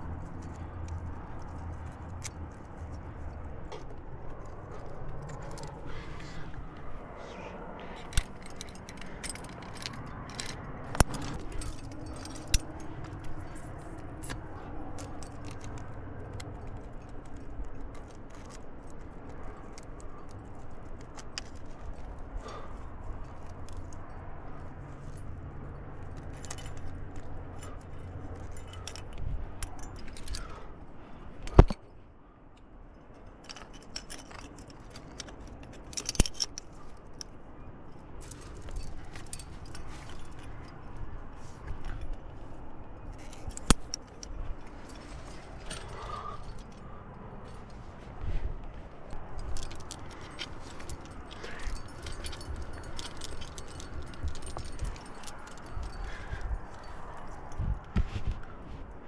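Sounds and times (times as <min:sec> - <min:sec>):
carabiners clinking and jingling: 0:00.0 - 0:59.0.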